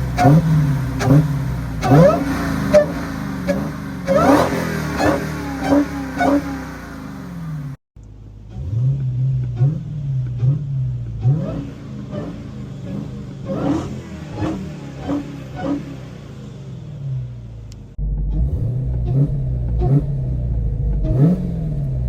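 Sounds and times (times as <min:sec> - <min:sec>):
car engine throttle blips: 0:00.0 - 0:22.0.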